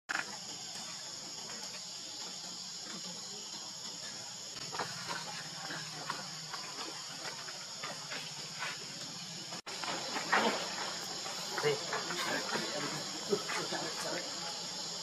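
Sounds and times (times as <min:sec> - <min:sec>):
insects buzzing: 0:00.1 - 0:15.0.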